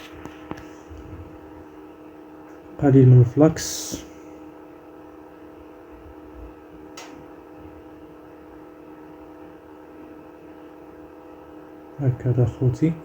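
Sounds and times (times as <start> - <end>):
hot-air station fan blowing: 0.0 - 13.0.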